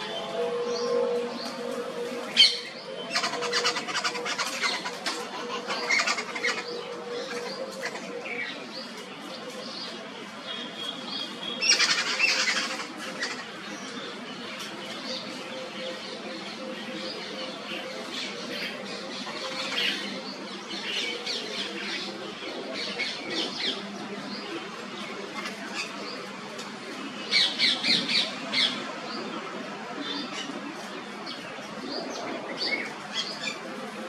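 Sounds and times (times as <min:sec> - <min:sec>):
birds chirping and squawking: 0:00.0 - 0:34.0.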